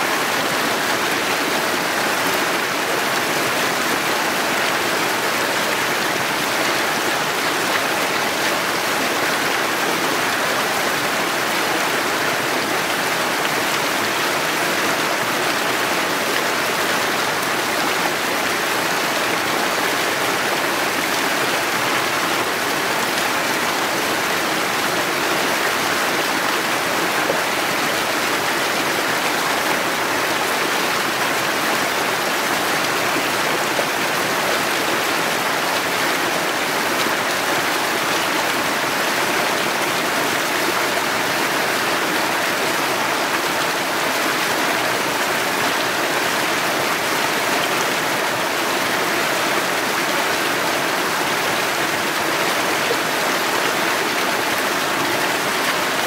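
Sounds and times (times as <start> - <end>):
stream splashing over boulders: 0.0 - 56.0.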